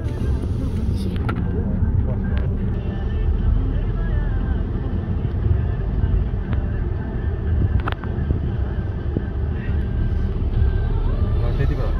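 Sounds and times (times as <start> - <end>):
car engine rumble inside cabin: 0.0 - 11.9.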